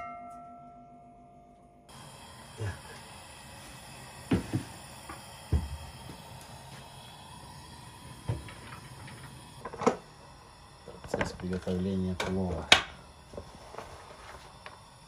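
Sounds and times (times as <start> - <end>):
faint steady hiss: 1.9 - 15.0.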